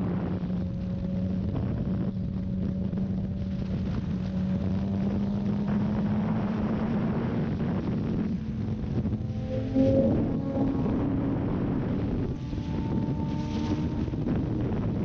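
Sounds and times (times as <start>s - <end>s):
motorcycle engine cruising: 0.0s - 15.0s
wind on microphone: 0.0s - 15.0s.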